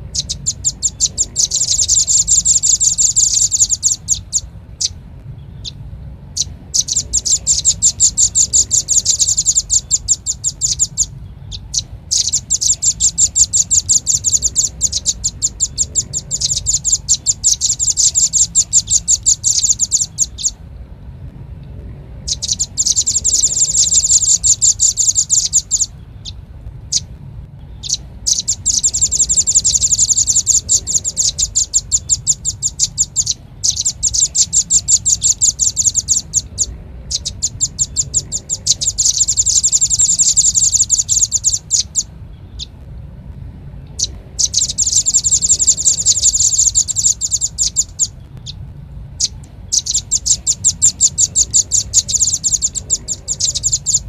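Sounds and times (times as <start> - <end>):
bird high chipping notes: 0.0 - 54.0.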